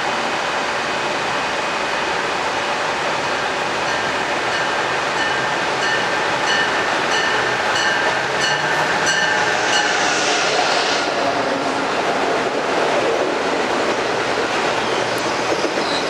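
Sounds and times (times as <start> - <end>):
high-speed train rushing: 0.0 - 16.0.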